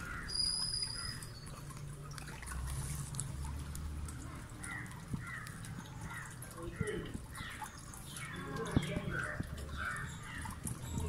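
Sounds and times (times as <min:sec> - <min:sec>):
caged birds chirping: 0:00.0 - 0:02.2, 0:03.0 - 0:11.0
water trickling and dripping: 0:00.0 - 0:11.0.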